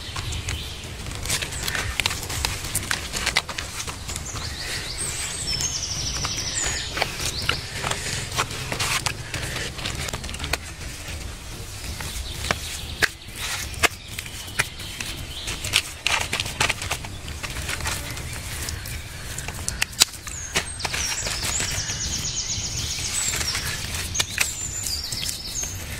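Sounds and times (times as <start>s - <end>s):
hands patting wet mud: 0.0s - 25.9s
leaves crackling and rustling: 0.0s - 25.9s
low steady rumble: 0.0s - 25.9s.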